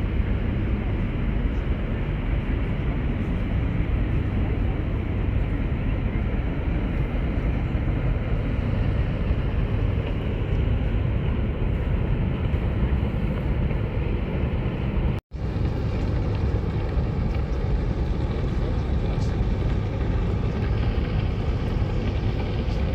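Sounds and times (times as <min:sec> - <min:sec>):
wind buffeting microphone: 0:00.0 - 0:22.9
passing ship engines: 0:04.4 - 0:22.9.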